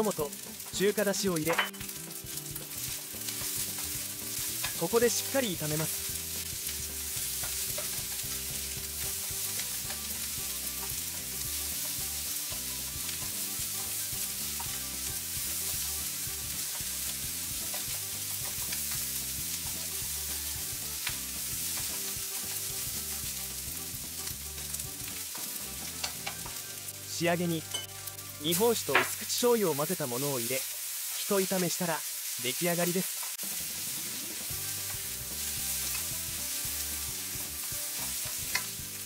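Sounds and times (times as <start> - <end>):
rice sizzling in frying pan: 0.0 - 39.0.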